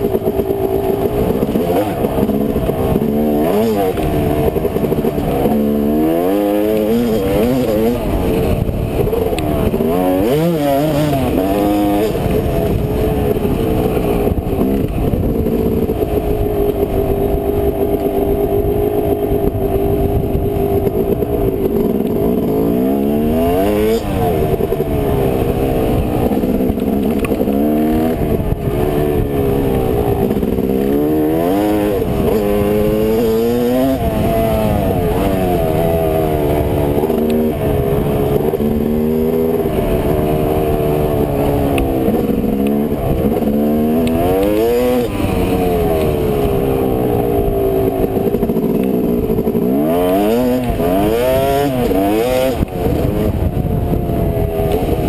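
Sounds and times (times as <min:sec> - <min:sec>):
dirt bike engine revving: 0:00.0 - 0:55.0
wind noise: 0:00.0 - 0:55.0.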